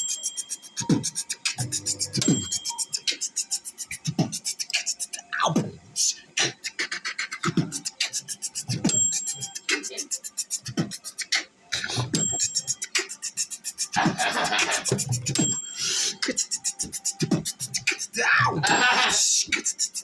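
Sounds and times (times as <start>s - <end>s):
beatboxing: 0.0s - 20.0s.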